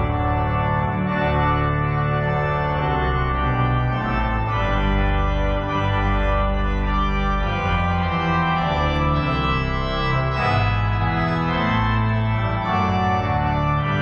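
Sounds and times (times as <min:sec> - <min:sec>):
organ playing chords: 0:00.0 - 0:14.0.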